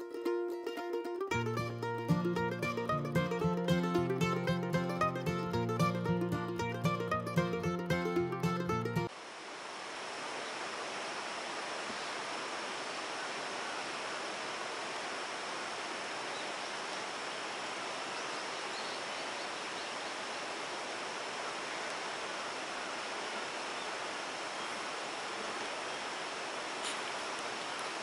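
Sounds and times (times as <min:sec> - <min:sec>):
mountain stream rushing: 0:00.1 - 0:28.0.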